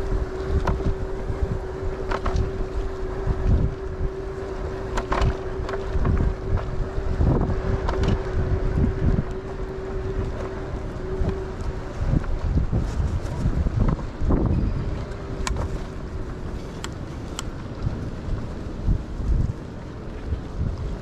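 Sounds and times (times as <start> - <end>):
electric motor hum: 0.0 - 20.9
wind buffeting microphone: 0.0 - 21.0.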